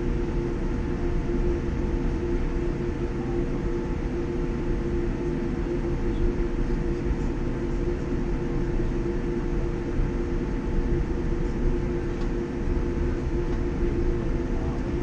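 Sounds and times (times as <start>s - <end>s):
aircraft cabin low rumble: 0.0s - 15.0s
steady hum: 0.0s - 15.0s.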